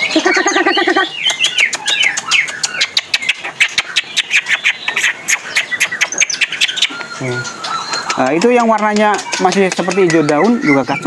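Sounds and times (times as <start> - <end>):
birds chirping and whistling: 0.0 - 11.0
sharp ticking notes: 0.4 - 11.0.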